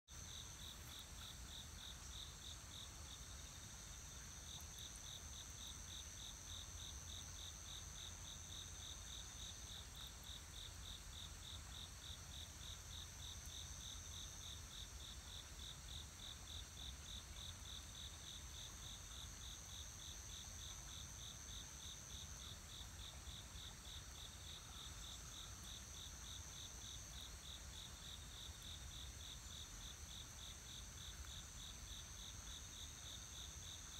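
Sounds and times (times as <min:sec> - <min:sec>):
high steady insect trill: 0:00.1 - 0:33.9
insects chirping: 0:00.2 - 0:33.9.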